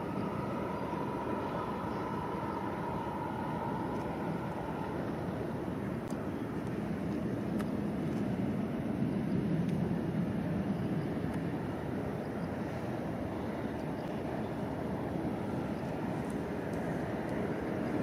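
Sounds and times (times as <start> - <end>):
jet engines low rumble: 0.0 - 18.0.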